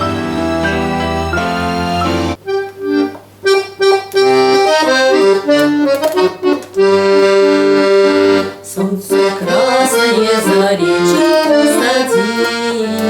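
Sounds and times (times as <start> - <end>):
accordion playing folk melody: 0.0 - 13.0.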